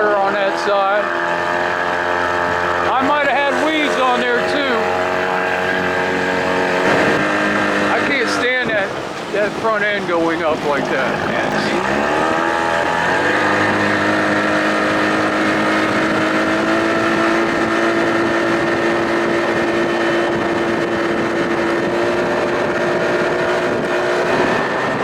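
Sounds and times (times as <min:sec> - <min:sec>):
outboard motor running: 0:00.0 - 0:25.0
rushing water: 0:00.0 - 0:25.0
rushing wind: 0:00.0 - 0:25.0.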